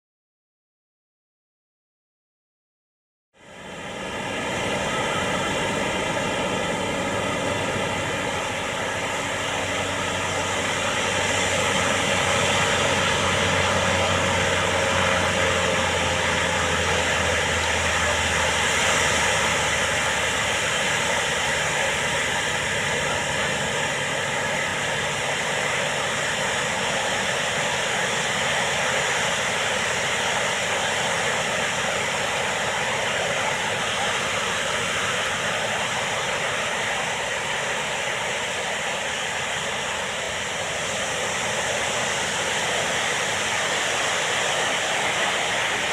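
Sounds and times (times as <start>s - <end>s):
low drone: 3.4s - 45.9s
ocean surf breaking: 3.5s - 45.9s.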